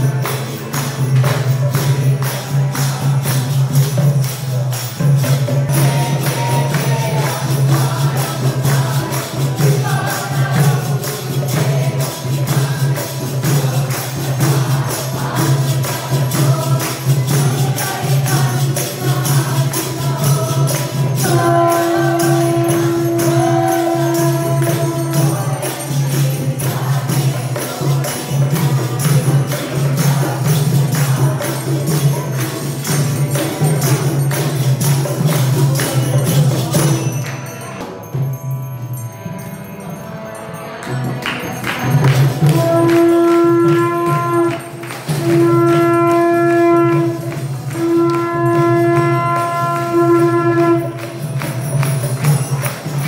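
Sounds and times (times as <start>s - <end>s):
group devotional chanting: 0.0s - 53.0s
hand bell ringing: 0.0s - 53.0s
jingling percussion: 0.0s - 53.0s.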